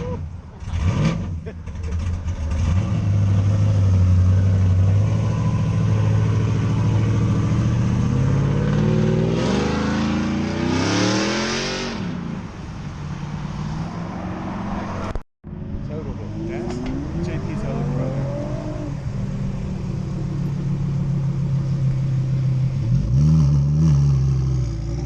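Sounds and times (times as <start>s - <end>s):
car engine revving and accelerating: 0.6s - 12.3s, 15.8s - 25.0s.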